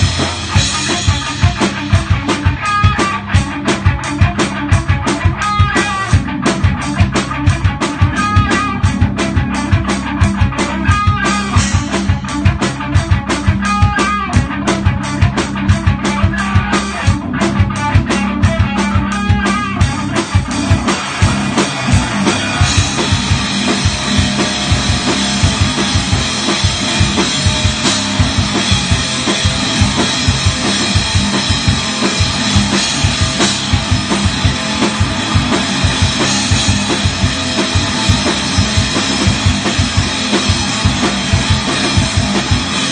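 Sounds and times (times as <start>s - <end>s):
fast drum kit: 0.0s - 42.9s
metal band playing: 0.0s - 42.9s.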